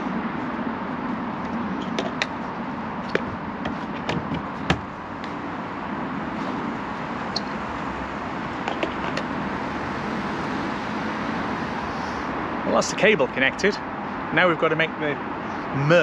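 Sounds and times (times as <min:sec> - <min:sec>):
background traffic hum: 0:00.0 - 0:16.0.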